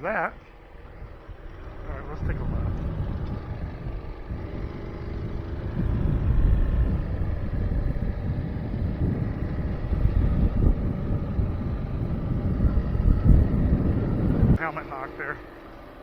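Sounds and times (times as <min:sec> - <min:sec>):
mini bike engine running: 0:00.4 - 0:16.0
wind rumbling on microphone: 0:00.6 - 0:14.8.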